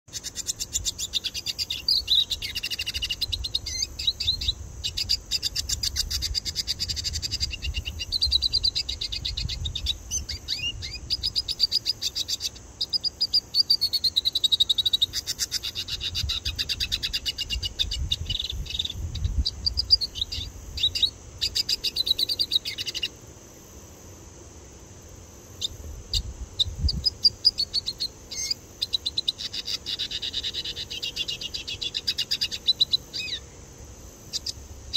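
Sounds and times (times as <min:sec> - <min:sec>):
bird singing twitters and trills: 0:00.1 - 0:23.2, 0:25.6 - 0:33.5.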